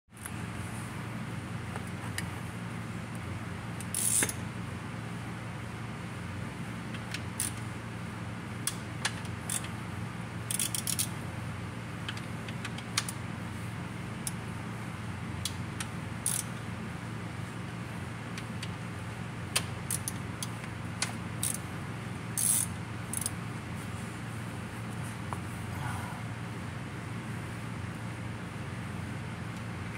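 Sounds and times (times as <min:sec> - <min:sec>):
steady low hum: 0:00.1 - 0:29.9.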